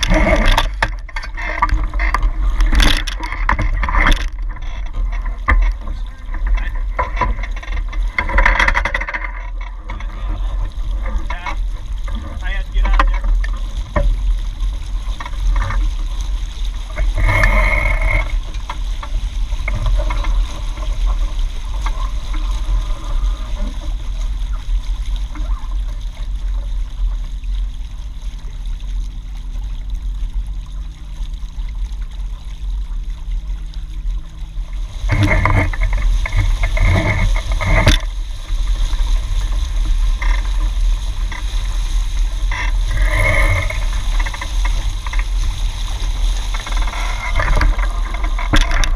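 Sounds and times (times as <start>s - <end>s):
steady low rumble: 0.0s - 48.9s
water slapping along a hull: 0.0s - 48.9s.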